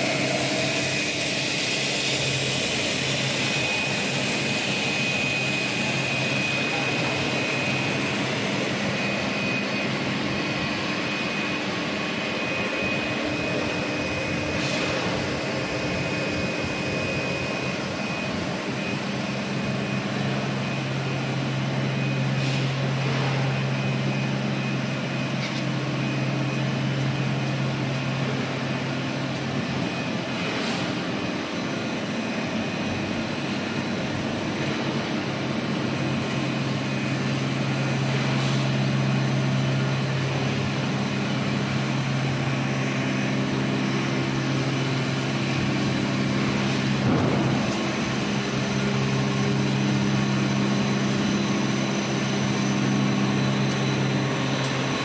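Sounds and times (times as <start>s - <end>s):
machinery whooshing hum: 0.0s - 55.0s.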